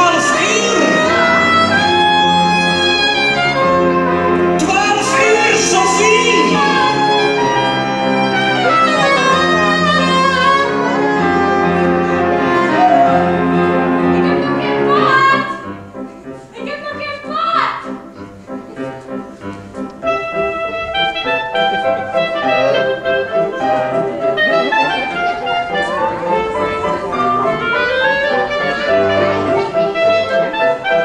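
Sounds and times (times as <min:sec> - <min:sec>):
bowed strings music: 0:00.0 - 0:31.0.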